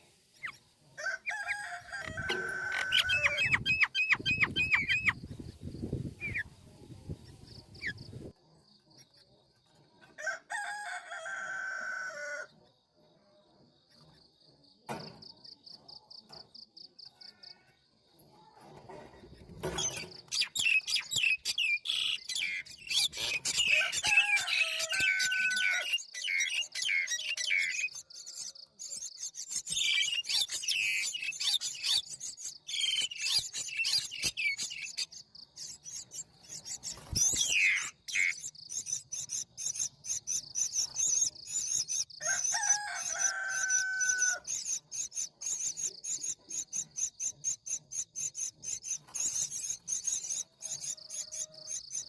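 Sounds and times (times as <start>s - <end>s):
birds chirping: 0.0s - 9.8s, 19.2s - 52.0s.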